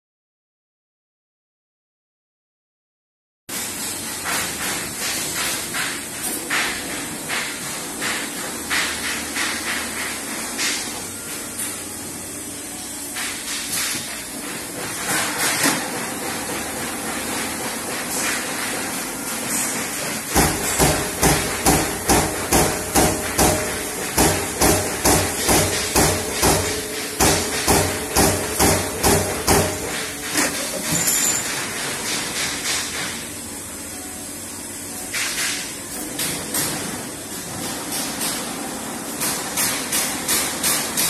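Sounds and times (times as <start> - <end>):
punch press punching sheet steel: 3.5 - 12.0, 13.0 - 33.4, 35.1 - 41.0.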